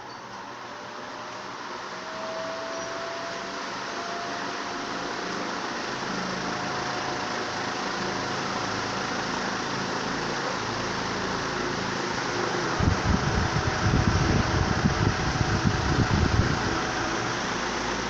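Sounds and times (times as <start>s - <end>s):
ceiling fan air rush: 0.0s - 18.0s
fan motor hum: 0.0s - 18.0s.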